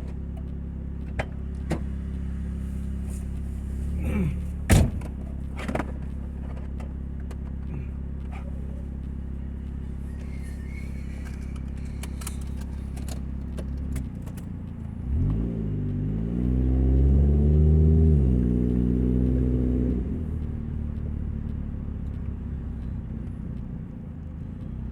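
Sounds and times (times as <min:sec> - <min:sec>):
car engine with leaking exhaust: 0:00.0 - 0:24.9.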